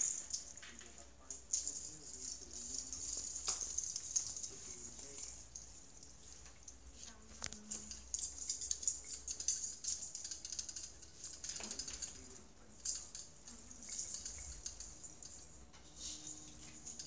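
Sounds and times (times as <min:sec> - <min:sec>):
artificial tree branches rustling: 0:00.0 - 0:17.0.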